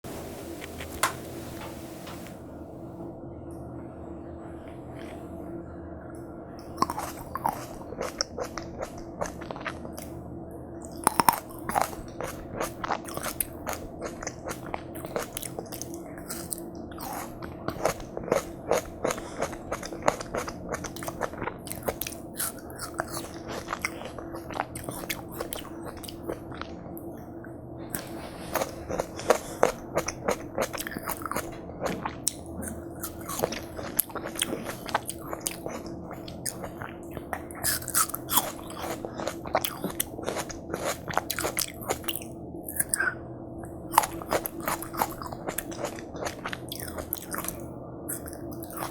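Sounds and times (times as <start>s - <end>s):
steady low hum: 0.0s - 48.9s
chewing watermelon with wet crunches: 6.7s - 10.2s, 10.8s - 27.1s, 27.9s - 48.9s.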